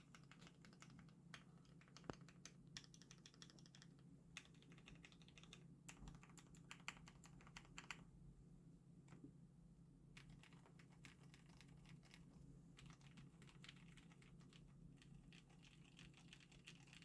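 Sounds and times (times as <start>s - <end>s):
mechanical keyboard typing: 0.0s - 8.0s, 10.2s - 12.2s, 12.8s - 17.0s.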